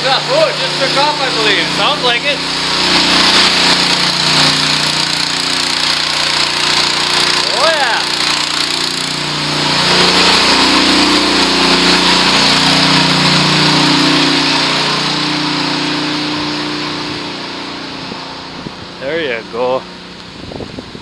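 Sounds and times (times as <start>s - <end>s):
small pump engine running: 0.0s - 21.0s.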